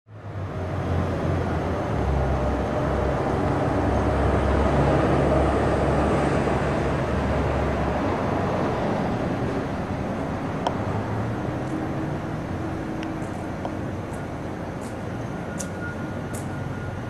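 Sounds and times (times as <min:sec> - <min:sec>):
traffic rumble: 0:00.1 - 0:17.0.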